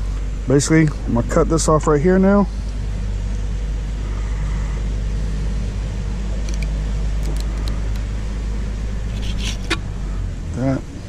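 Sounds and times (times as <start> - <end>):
motor humming: 1.1 - 10.4.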